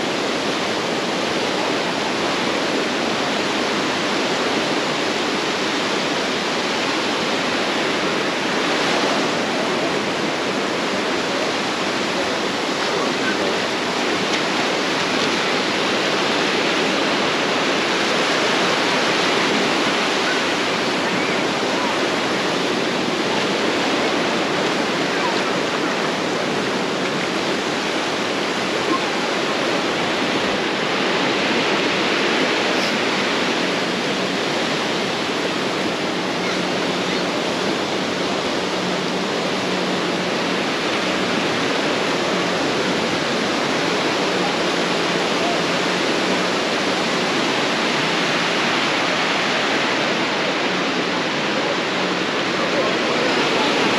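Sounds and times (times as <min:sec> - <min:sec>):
surf washing onto beach: 0:00.0 - 0:53.9.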